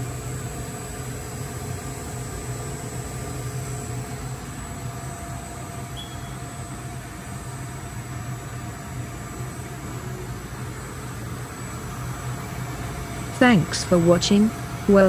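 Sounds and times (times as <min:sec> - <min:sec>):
extrusion machine humming: 0:00.0 - 0:15.0.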